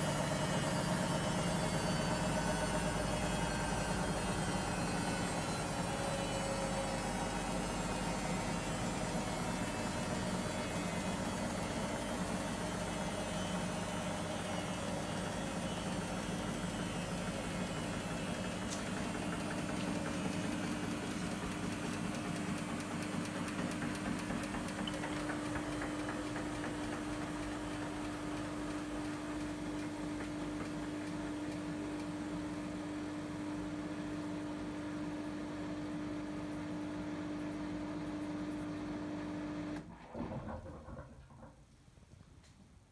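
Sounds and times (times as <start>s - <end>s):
washing machine spinning: 0.0s - 41.6s.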